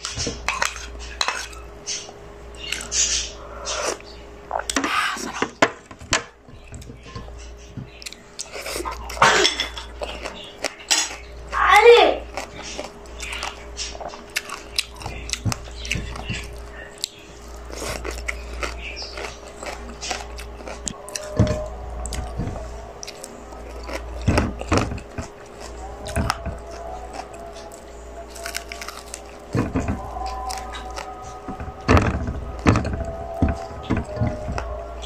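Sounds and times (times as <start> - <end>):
chewing and mouth sounds: 0.0 - 5.4, 6.5 - 11.6, 12.2 - 35.0
faint steady hum: 0.0 - 35.0.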